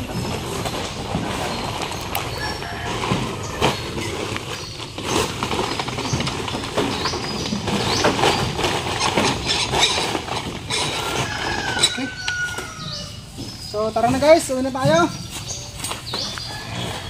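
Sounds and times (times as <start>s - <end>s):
trotters clattering on crates: 0.0s - 17.0s.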